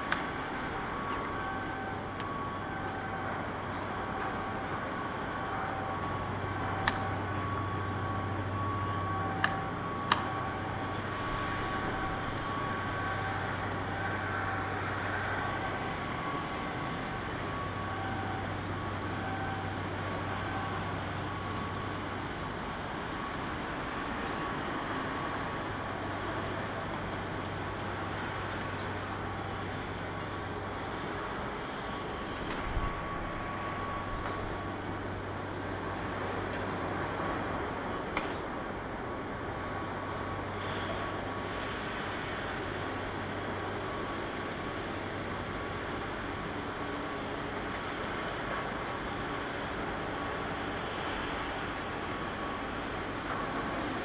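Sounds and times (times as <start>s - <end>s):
machinery hum: 0.0s - 54.0s.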